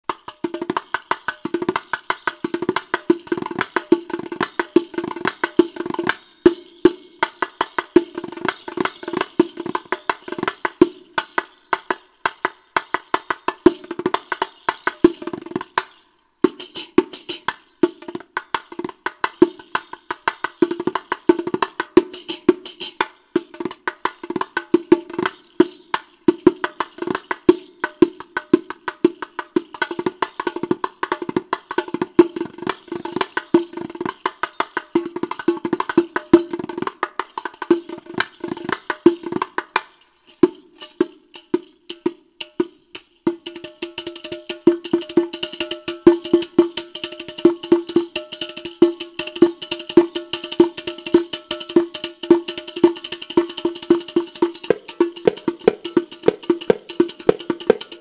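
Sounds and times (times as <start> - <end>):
frame tambourine playing rhythms: 0.0 - 58.0.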